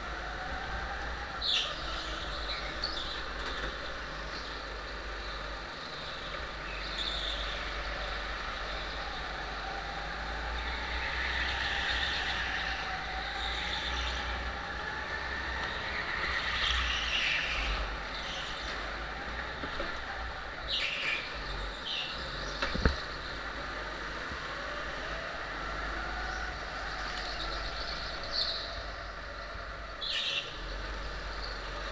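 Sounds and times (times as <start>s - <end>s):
go-kart motor: 0.0s - 31.9s.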